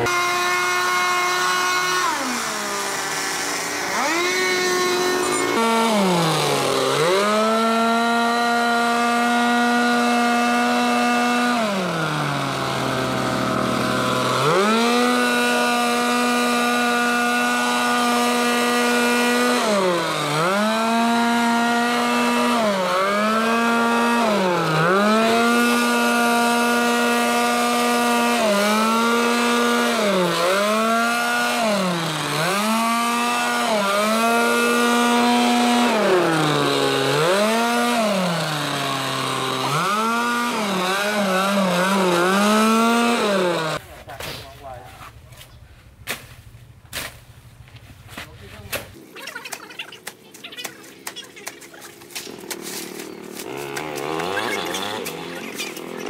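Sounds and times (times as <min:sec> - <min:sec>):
small petrol engine revving: 0:00.0 - 0:43.8, 0:49.8 - 0:56.0.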